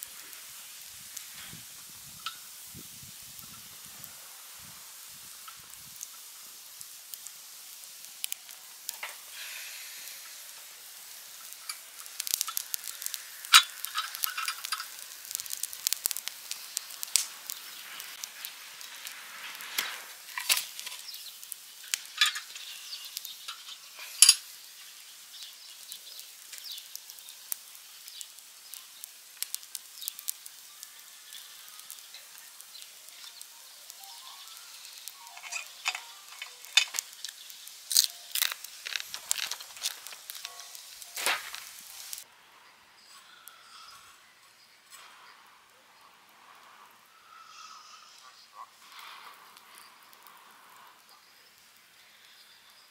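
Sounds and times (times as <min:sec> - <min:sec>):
campfire crackling: 0:00.0 - 0:42.3, 0:44.8 - 0:52.9.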